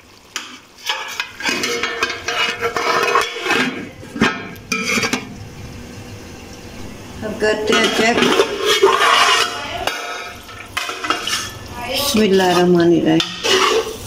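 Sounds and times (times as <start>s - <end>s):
metal utensil scraping a pot: 0.4s - 5.3s, 7.6s - 14.0s.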